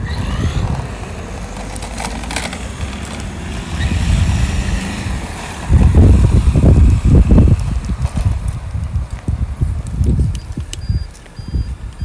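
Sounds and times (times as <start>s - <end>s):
wheels rolling over rough asphalt: 0.0s - 12.0s.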